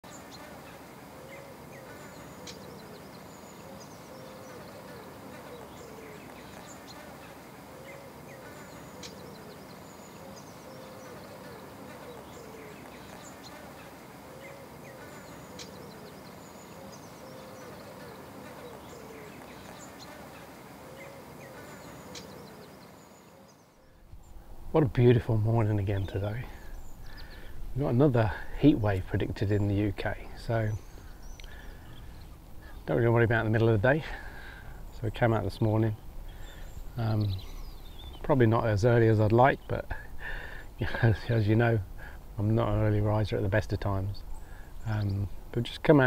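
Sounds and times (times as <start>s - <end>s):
small birds chirping: 0.0s - 46.0s
steady background hiss: 0.0s - 46.0s
low insect buzz: 0.1s - 24.7s, 25.4s - 43.0s.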